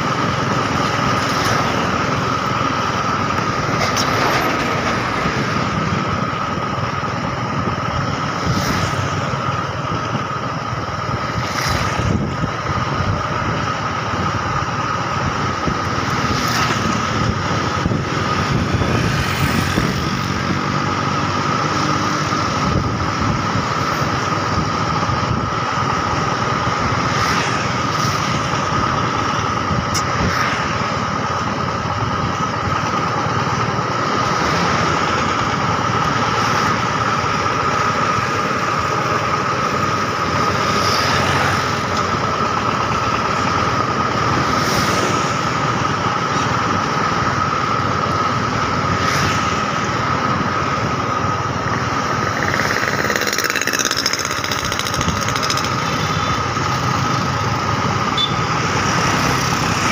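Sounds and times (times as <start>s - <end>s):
constant high whine: 0.0s - 59.9s
road and wind noise: 0.0s - 59.9s
vehicle engine running: 0.0s - 59.9s.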